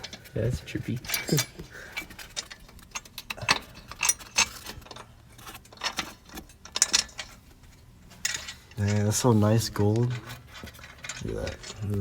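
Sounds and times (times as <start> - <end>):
metal clinking on metal: 0.9 - 7.4, 8.1 - 12.0.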